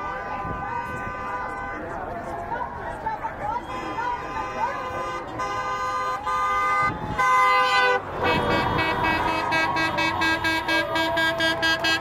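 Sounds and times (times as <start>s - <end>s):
car horns honking: 0.0s - 2.1s, 3.6s - 12.0s
passing road traffic: 0.0s - 12.0s.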